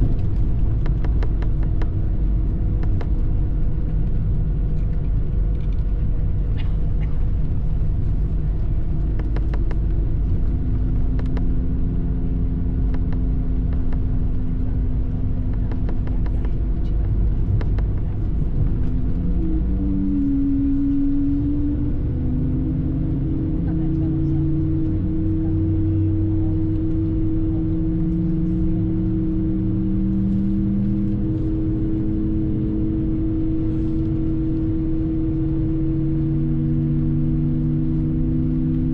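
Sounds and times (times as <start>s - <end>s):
aircraft engine rumble: 0.0s - 38.9s
steady hums: 0.0s - 38.9s.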